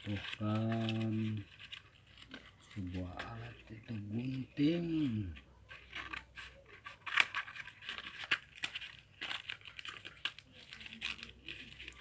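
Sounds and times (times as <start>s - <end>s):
cardboard pack crinkling: 0.0s - 12.0s.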